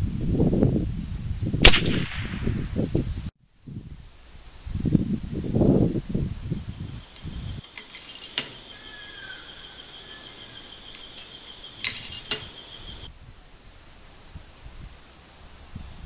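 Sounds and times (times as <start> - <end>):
insects trilling: 1.6 - 16.0.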